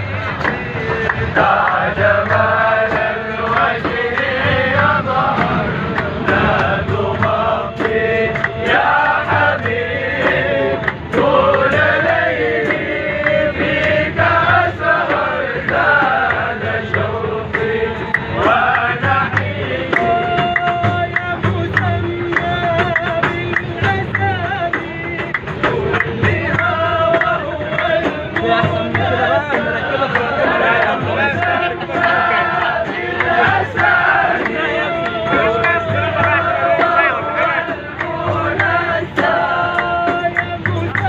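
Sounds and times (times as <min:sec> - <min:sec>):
men singing together: 0:00.0 - 0:41.0
rhythmic sharp strikes: 0:00.0 - 0:41.0.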